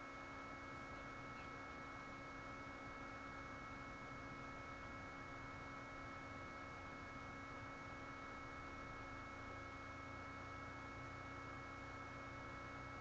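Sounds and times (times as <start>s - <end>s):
steady multi-tone hum: 0.0s - 13.0s.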